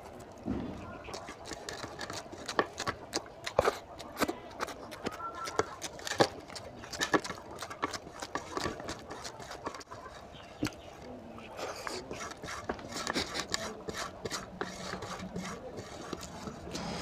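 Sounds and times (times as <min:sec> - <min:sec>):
hand squelching food: 0:00.0 - 0:17.0.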